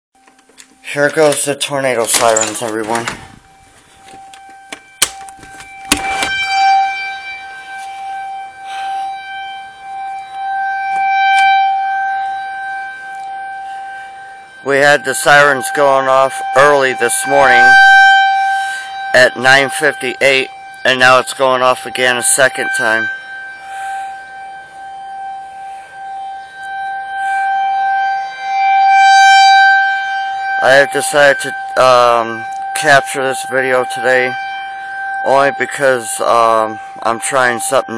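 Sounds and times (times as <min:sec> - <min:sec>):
tornado warning siren: 0:00.2 - 0:37.9.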